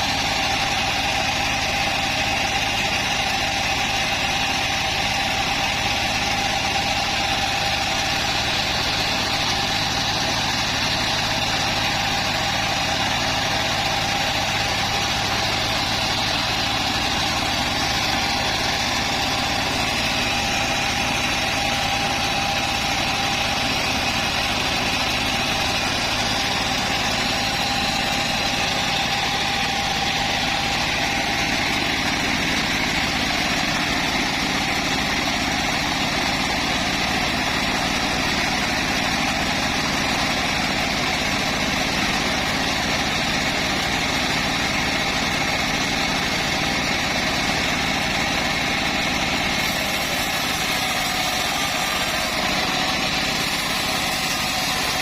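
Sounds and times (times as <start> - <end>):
bandsaw mill drone: 0.0 - 55.0.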